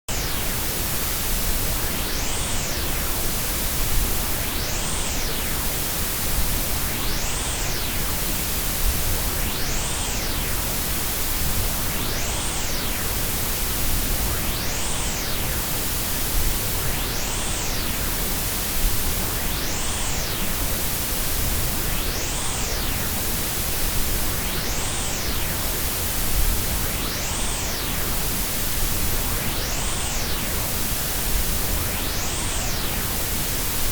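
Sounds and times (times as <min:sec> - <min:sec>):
steady noise hiss: 0:00.1 - 0:33.9.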